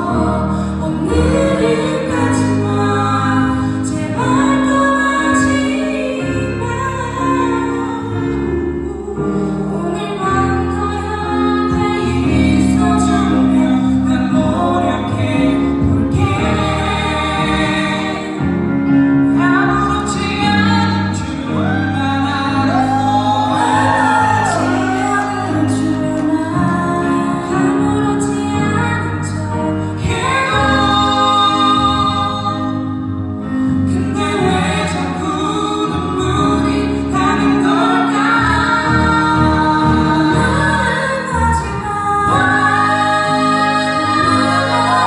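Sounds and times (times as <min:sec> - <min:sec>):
electric guitar: 0:00.0 - 0:45.0
keyboard: 0:00.0 - 0:45.0
vocalists singing pop ballad: 0:00.0 - 0:45.0.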